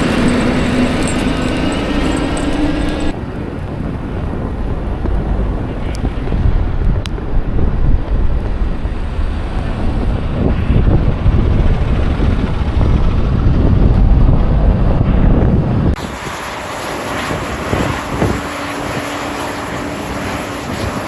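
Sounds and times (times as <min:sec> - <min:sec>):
blizzard wind buffeting microphone: 0:00.0 - 0:21.0
hissy wind: 0:00.0 - 0:21.0.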